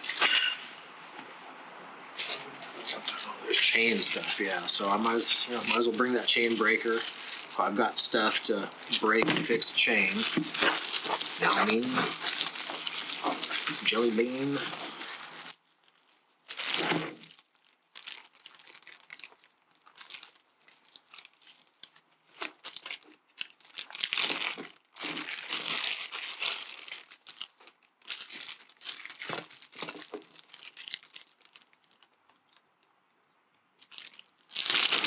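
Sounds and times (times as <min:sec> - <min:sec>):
plastic wrapping crinkling: 0:02.1 - 0:35.0.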